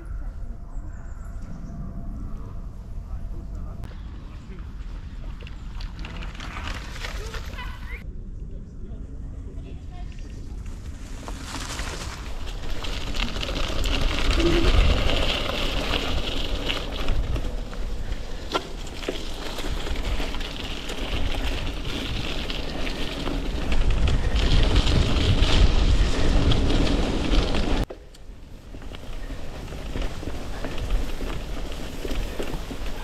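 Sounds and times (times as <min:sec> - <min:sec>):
wind rumble on microphone: 0:00.0 - 0:33.0
bike tyres crackling on gravel: 0:04.2 - 0:08.0, 0:10.2 - 0:33.0.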